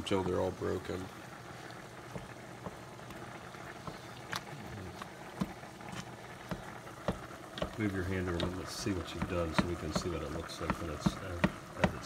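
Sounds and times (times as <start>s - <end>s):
tomatoes popping: 1.6s - 12.0s.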